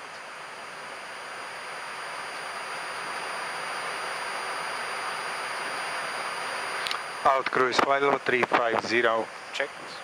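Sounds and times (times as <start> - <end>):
faint high steady tones: 0.0 - 8.4
airflow and ventilation hiss: 0.0 - 10.0.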